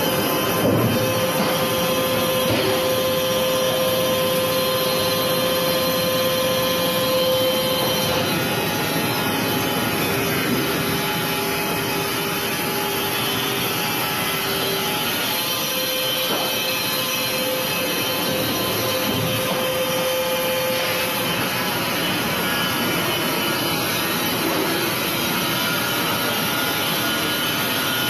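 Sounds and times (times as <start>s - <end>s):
band sawmill whining: 0.0s - 28.0s.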